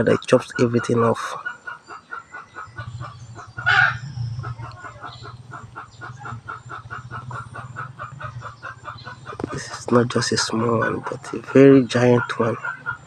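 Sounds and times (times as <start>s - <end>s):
animal calling in rapid pulses: 0.0s - 13.0s
loud high animal call: 0.0s - 13.0s.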